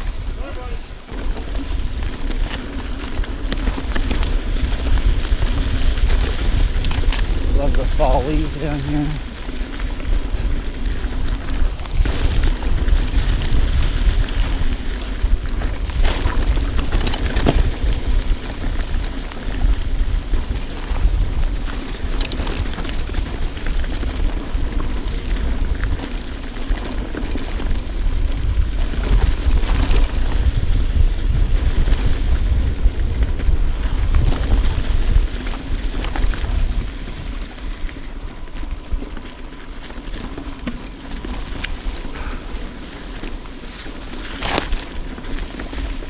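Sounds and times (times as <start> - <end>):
bike rattling over rocky trail: 0.0 - 46.0
wind buffeting microphone: 0.0 - 46.0.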